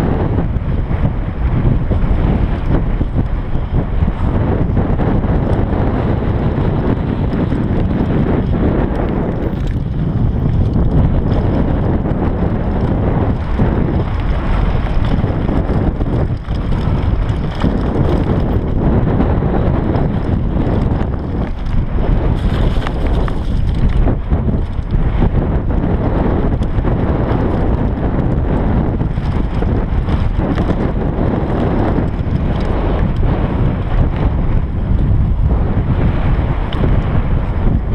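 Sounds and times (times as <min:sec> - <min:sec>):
bike knocking and rattling: 0:00.0 - 0:37.9
bike tyres rumbling on dirt: 0:00.0 - 0:37.9
wind buffeting microphone: 0:00.0 - 0:37.9.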